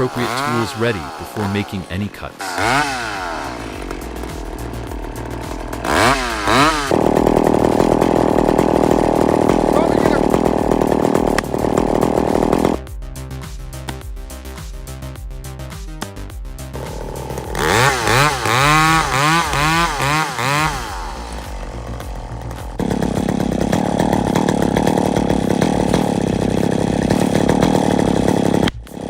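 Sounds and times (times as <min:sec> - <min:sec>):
chainsaw engine revving: 0:00.0 - 0:12.9, 0:16.5 - 0:29.0.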